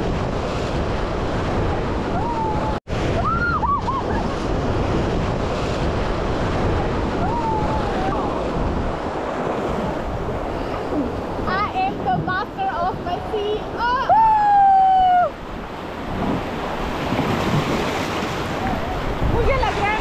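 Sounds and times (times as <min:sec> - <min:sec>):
rushing river water: 0:00.0 - 0:20.0
wind buffeting microphone: 0:00.0 - 0:20.0.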